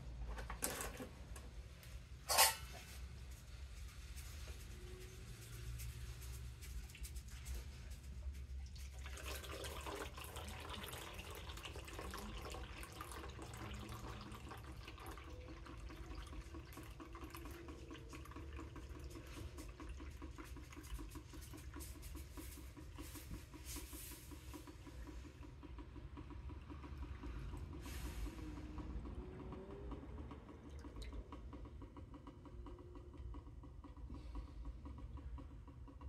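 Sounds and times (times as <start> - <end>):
liquid trickling through filter: 0.0 - 36.0.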